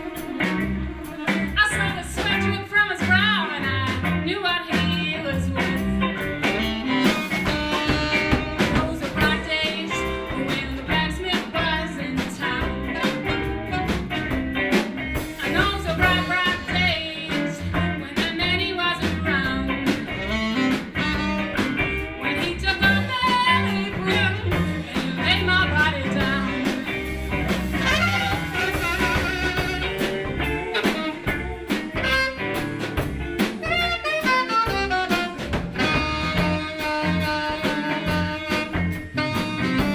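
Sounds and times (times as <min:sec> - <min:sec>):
live blues band playing: 0:00.0 - 0:39.9.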